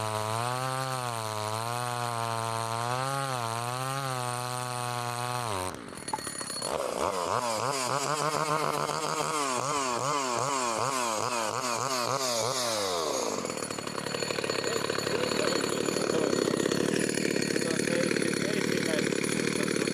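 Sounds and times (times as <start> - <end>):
chainsaw engine revving: 0.0 - 19.9.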